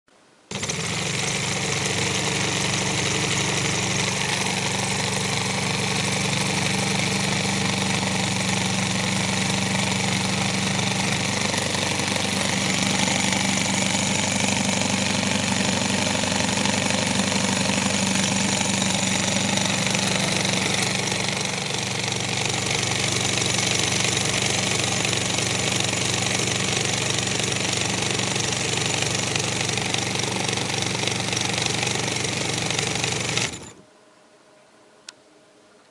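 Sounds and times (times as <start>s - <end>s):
solenoid engine mechanical buzz: 0.5s - 33.8s.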